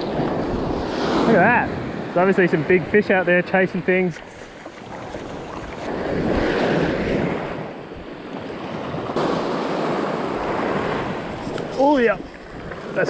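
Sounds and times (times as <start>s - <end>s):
wind on microphone: 0.0s - 2.2s, 4.5s - 13.0s
small waves washing over sand: 0.0s - 13.0s.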